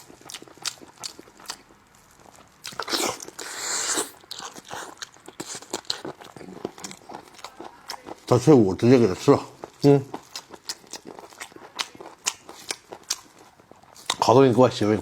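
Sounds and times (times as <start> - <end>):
person biting and chewing: 0.0 - 8.4, 9.6 - 14.3.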